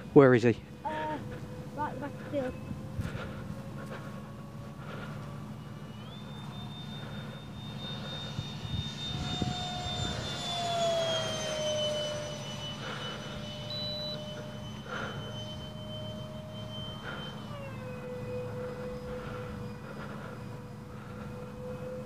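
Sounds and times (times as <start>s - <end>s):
model jet fans whining: 0.0s - 22.0s.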